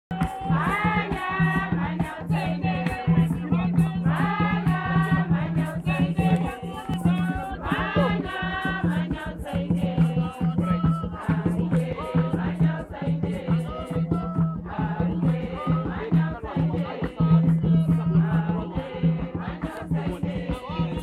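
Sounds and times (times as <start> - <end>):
crowd singing in chorus: 0.1 - 21.0
rhythmic beat of crisp strokes: 0.1 - 21.0.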